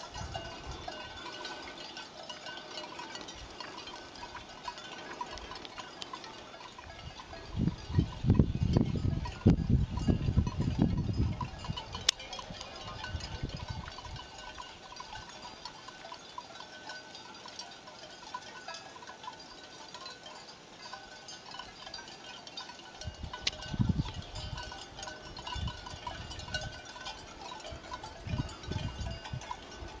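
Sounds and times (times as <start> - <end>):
cowbells clanking: 0.0 - 30.0.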